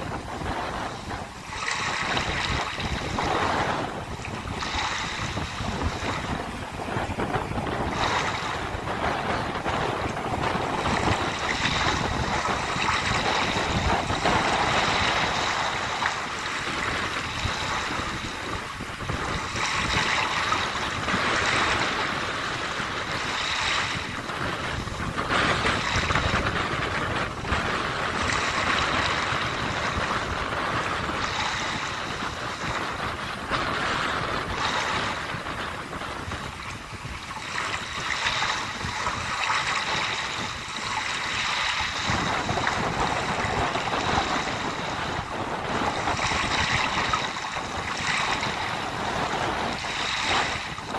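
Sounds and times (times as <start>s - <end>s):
sea waves washing onto shore: 0.0s - 50.9s
wind rumbling on microphone: 0.0s - 50.9s.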